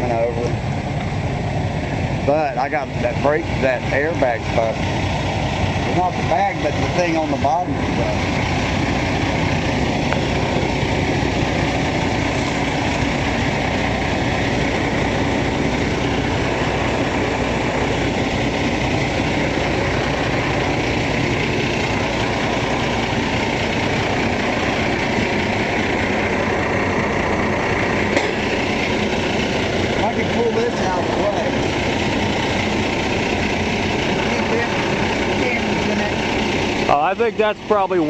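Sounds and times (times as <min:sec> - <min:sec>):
diesel truck engine idling: 0:00.0 - 0:38.0.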